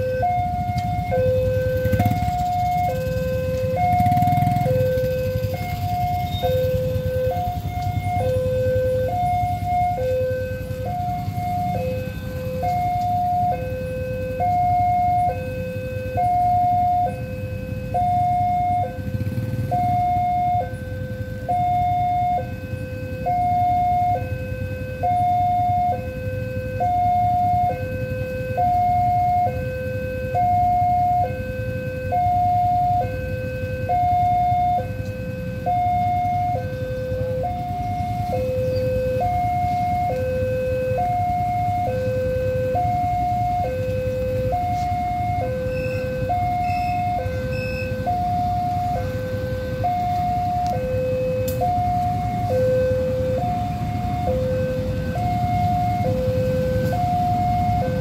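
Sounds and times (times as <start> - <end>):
level crossing alarm two-tone: 0.0 - 20.8, 21.4 - 58.0
passing motorcycles rumble: 0.0 - 58.0.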